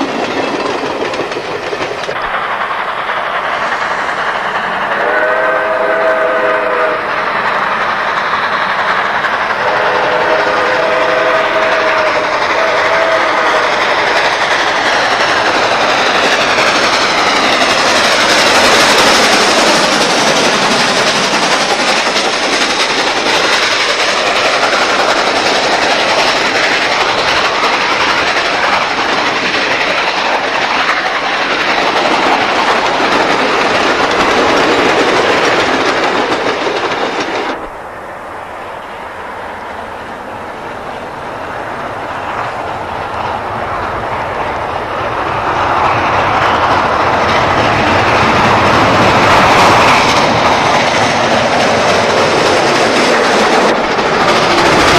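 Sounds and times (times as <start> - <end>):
train cars rolling on rails: 0.0 - 54.9.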